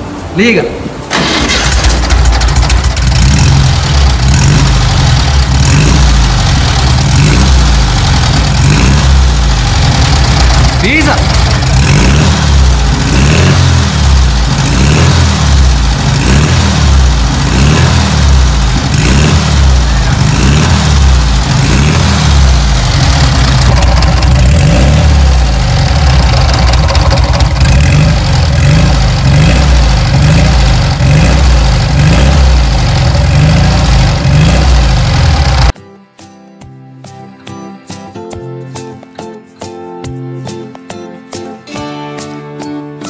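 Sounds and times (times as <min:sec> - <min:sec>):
car engine revving in blips: 0:01.2 - 0:35.8.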